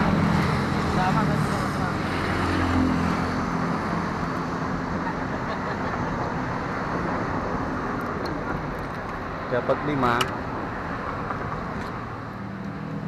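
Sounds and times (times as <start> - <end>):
road traffic noise: 0.0 - 13.0
vehicle engine running close by: 0.0 - 13.0.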